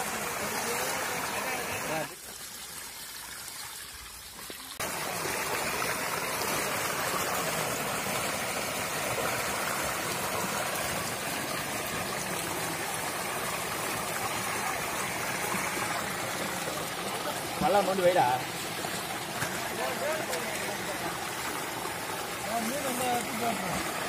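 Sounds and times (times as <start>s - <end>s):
stream water rushing and splashing: 0.0s - 24.0s.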